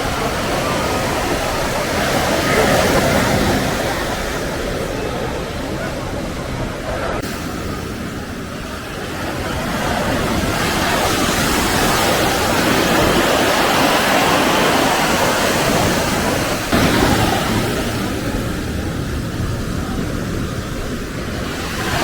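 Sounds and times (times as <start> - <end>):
water rushing up beach: 0.0 - 22.0
waves breaking: 0.0 - 22.0.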